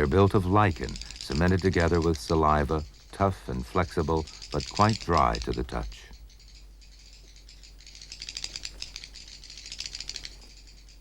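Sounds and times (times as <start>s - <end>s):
swiftlet echolocation clicks: 0.0s - 11.0s.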